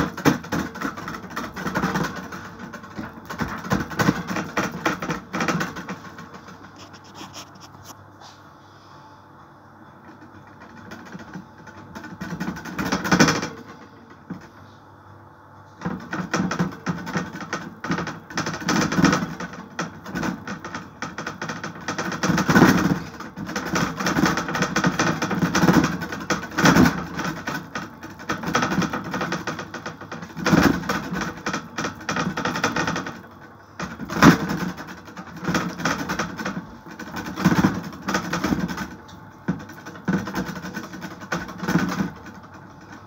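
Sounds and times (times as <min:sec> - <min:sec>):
fingertips patting dough on tray: 0:00.0 - 0:08.4, 0:10.0 - 0:14.8, 0:15.7 - 0:43.0.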